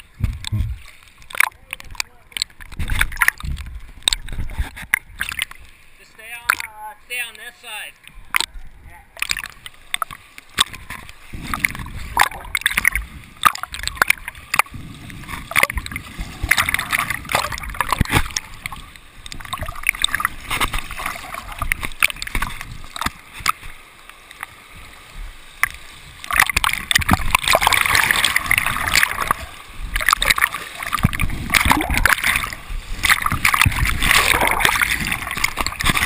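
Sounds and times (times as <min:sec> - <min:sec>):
water slapping against camera: 0:00.0 - 0:07.4, 0:08.1 - 0:24.6, 0:25.6 - 0:36.0
river water splashing and gurgling: 0:00.0 - 0:36.0.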